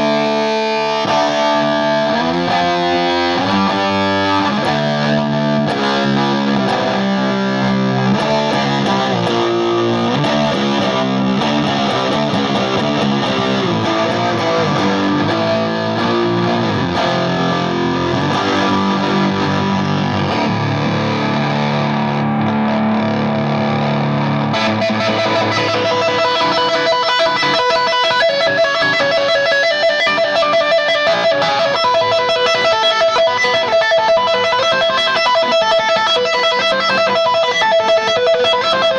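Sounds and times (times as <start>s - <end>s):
fuzz electric guitar: 0.0s - 38.9s.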